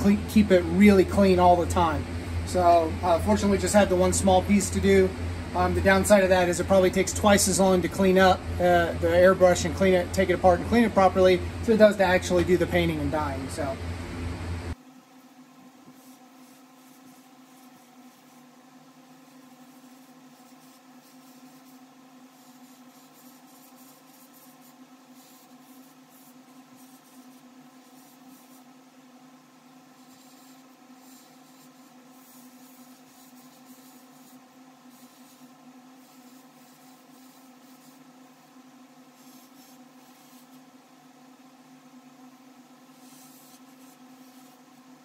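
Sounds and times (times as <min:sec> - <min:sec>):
airbrush hissing: 0:00.0 - 0:13.8, 0:15.9 - 0:28.8, 0:29.8 - 0:40.8, 0:42.8 - 0:45.0
airbrush compressor humming: 0:00.0 - 0:45.0.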